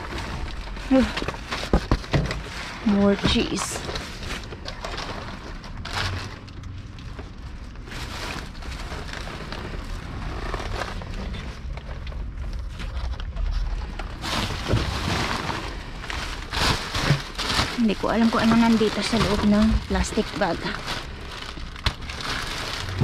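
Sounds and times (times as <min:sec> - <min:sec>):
low rumble: 0:00.0 - 0:23.0
plastic bags and cardboard rustling: 0:00.0 - 0:23.0.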